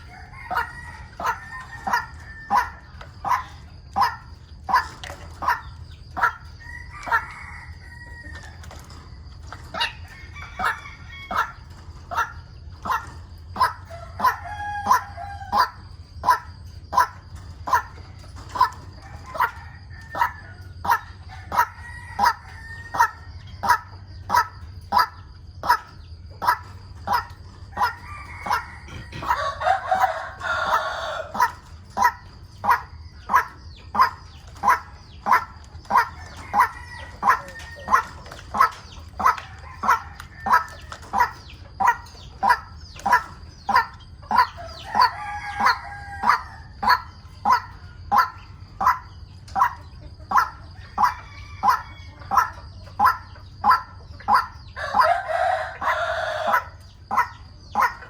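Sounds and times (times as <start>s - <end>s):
rooster crowing: 0.0s - 12.3s, 12.9s - 17.1s, 17.7s - 25.8s, 26.4s - 33.4s, 34.7s - 49.2s, 50.3s - 58.0s.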